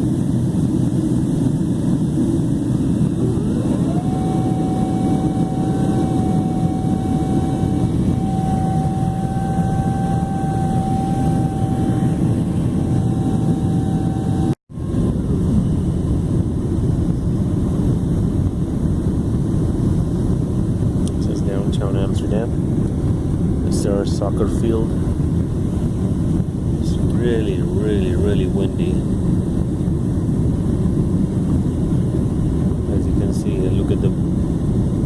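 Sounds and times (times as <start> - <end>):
jet engine and airflow roar: 0.0 - 35.0
steady whine: 0.0 - 35.0.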